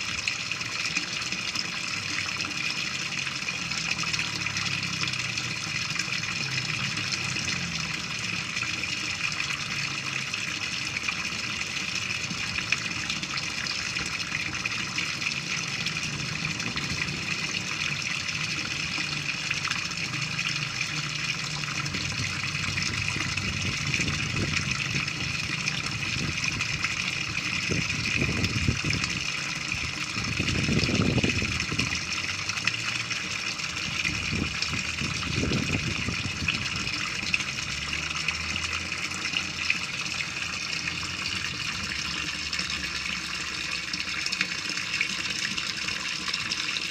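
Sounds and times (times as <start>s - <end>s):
water pouring and splashing: 0.0s - 46.9s.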